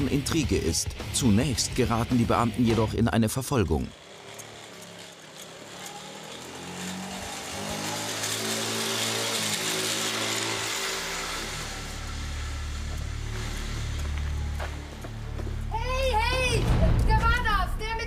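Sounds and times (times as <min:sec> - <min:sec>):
scooter engine running: 0:00.0 - 0:16.5.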